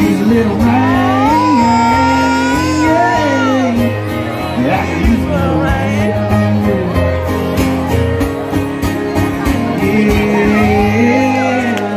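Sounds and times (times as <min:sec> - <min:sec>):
acoustic guitars strummed: 0:00.0 - 0:11.9.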